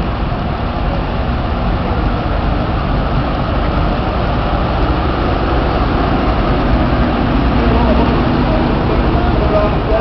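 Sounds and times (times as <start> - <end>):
tractor diesel engines running: 0.0 - 10.0.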